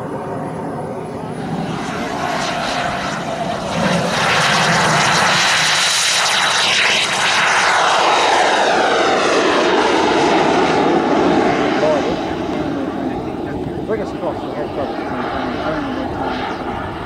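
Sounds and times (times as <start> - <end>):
model jet turbine engine: 0.0 - 17.0.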